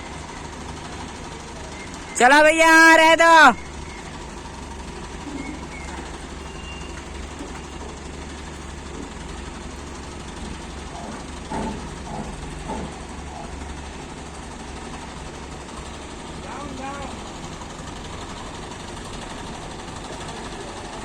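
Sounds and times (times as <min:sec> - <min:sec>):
heavy machine engine idling: 0:00.0 - 0:21.0
voices calling out: 0:00.0 - 0:21.0.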